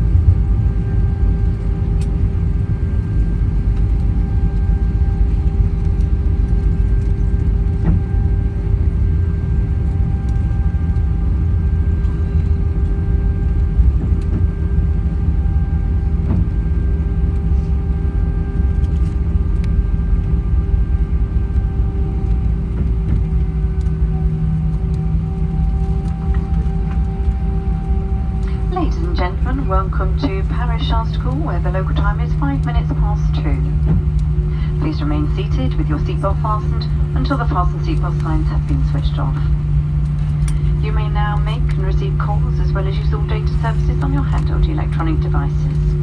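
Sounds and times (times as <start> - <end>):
airplane cabin rumble: 0.0 - 46.0
steady engine tones: 0.0 - 46.0.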